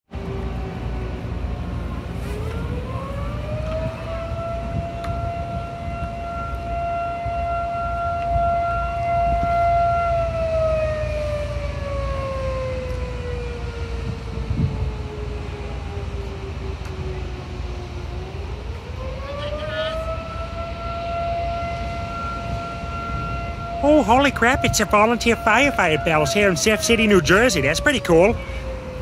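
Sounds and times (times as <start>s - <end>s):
alarm siren wailing: 0.2s - 29.0s.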